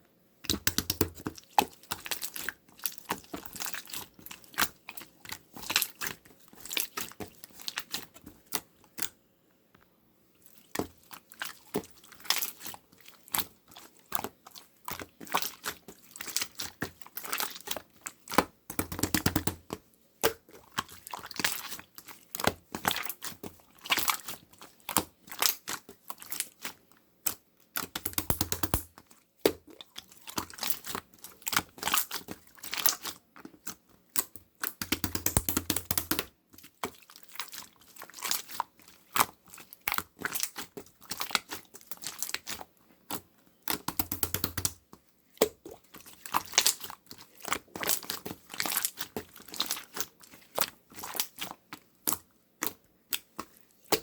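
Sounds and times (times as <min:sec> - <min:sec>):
long full slime squishes: 0:00.4 - 0:09.2, 0:10.3 - 0:54.0.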